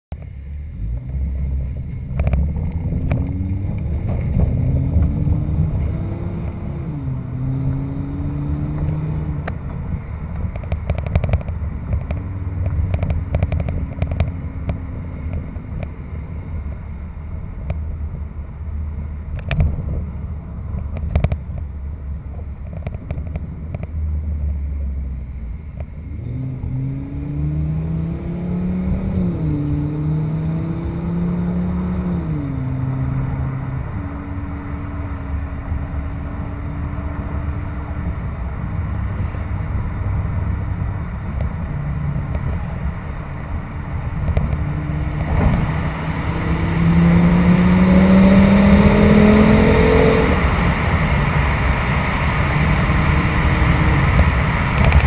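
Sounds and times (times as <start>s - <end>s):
road noise: 0.0s - 55.0s
car engine accelerating: 0.1s - 55.0s.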